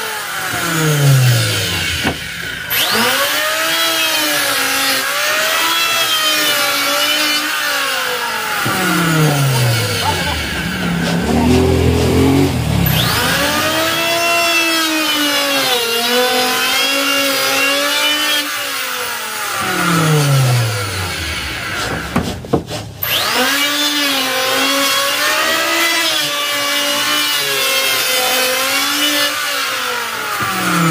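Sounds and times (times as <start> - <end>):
electric hand planer cutting wood: 0.0 - 30.9.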